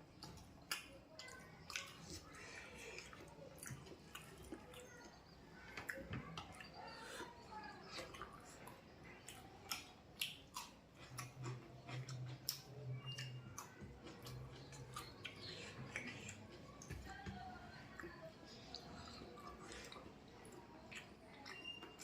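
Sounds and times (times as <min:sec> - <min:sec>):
person chewing: 0:00.1 - 0:17.0, 0:17.9 - 0:22.0.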